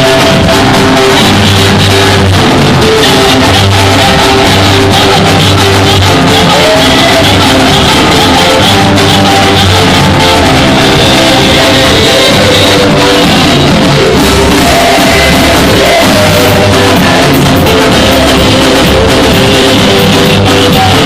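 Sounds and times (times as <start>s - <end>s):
live worship band playing: 0.0s - 21.0s
voices singing and shouting: 0.0s - 21.0s.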